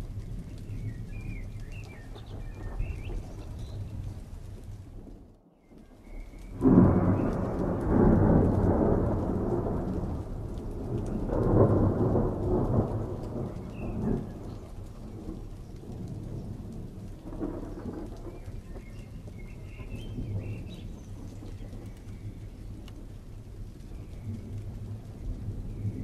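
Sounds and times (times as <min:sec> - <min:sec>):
thunder crack and rumble: 0:00.0 - 0:26.0.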